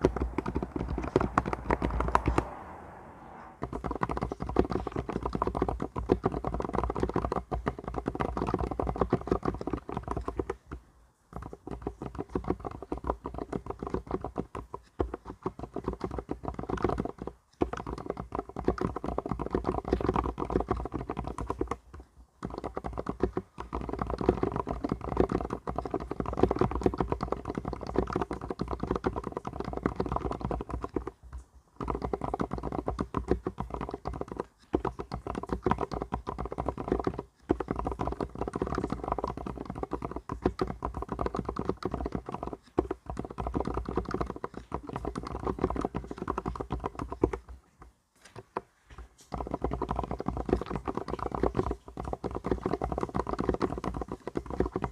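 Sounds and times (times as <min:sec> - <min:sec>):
fast mechanical keyboard typing: 0:00.0 - 0:02.7, 0:03.6 - 0:47.6, 0:48.2 - 0:54.9.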